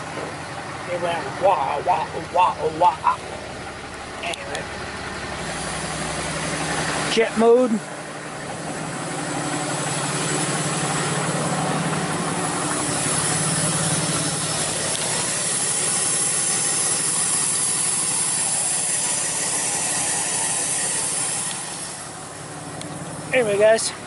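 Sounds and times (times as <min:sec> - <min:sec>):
diesel engine idling with whistle: 0:00.0 - 0:24.0.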